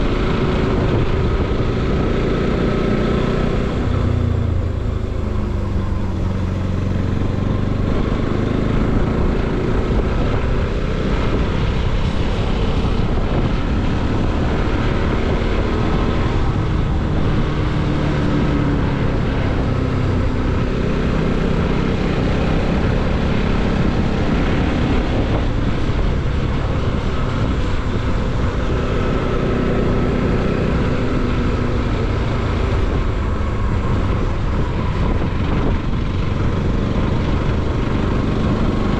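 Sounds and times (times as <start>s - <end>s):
motorcycle engine running: 0.0s - 38.9s
road and wind rush: 0.0s - 38.9s.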